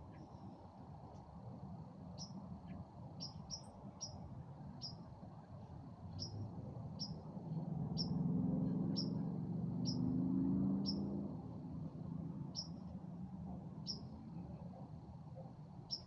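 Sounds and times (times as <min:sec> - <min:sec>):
insects humming: 0:01.6 - 0:13.2, 0:13.8 - 0:16.0.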